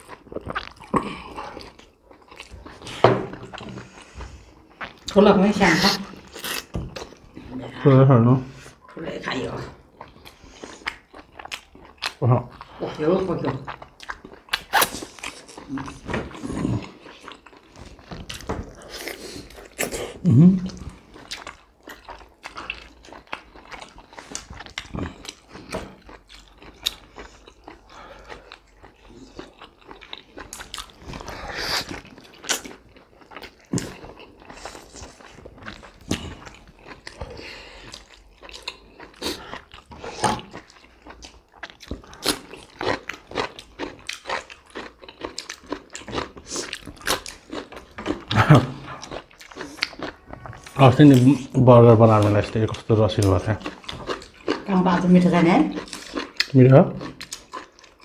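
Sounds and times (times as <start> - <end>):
wet chewing and mouth smacks: 0.0 - 7.4, 9.8 - 58.0.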